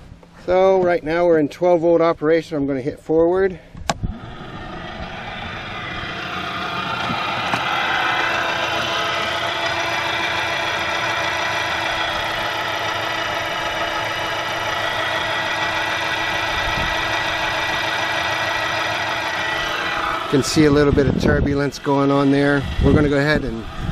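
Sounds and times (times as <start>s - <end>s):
electric motor whining: 3.9s - 23.9s.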